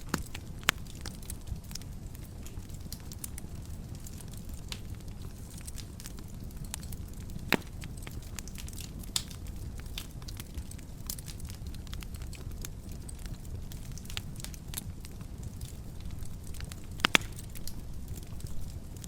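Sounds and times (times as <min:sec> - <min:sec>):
fire pops and snaps: 0:00.0 - 0:19.0
low rumble of flames: 0:00.0 - 0:19.0
wood fire crackling: 0:00.0 - 0:19.0.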